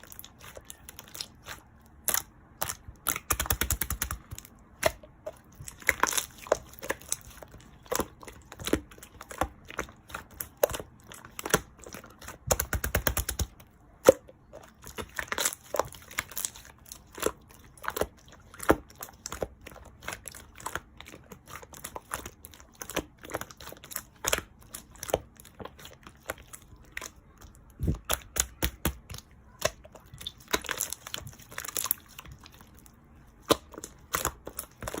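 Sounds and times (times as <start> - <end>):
slime popping and crackling: 0.0 - 35.0.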